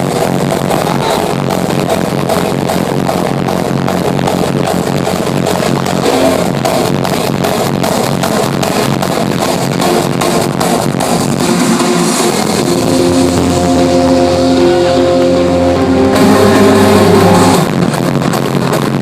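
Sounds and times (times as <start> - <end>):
long held synth chords: 0.0 - 18.9
hardstyle electronic dance music: 0.0 - 19.0.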